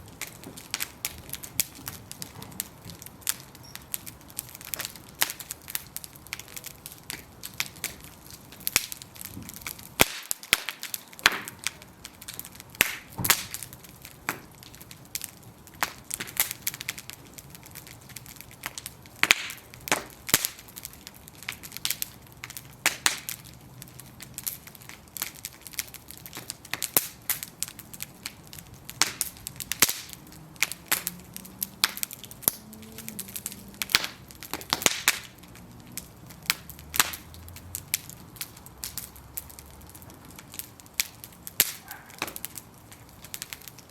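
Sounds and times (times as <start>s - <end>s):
bonfire crackling and popping: 0.0s - 43.9s
low steady fire hiss: 0.0s - 43.9s.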